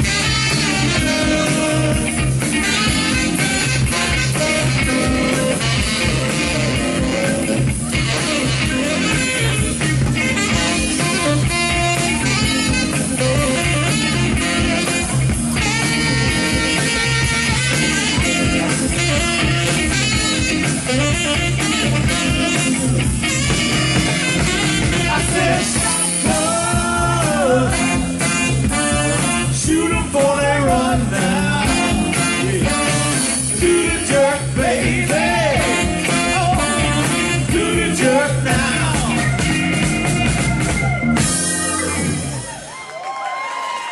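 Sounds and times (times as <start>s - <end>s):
saxophone wailing lead lines: 0.0s - 30.0s, 31.4s - 42.9s
soul band playing a groove: 0.0s - 43.8s.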